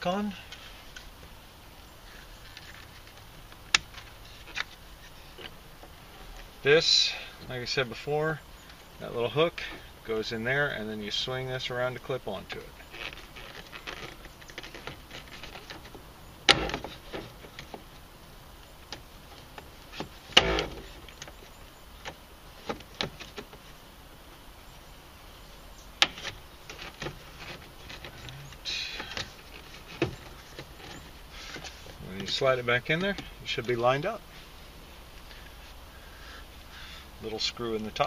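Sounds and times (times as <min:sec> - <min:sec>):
handling rustle: 0:00.0 - 0:38.0.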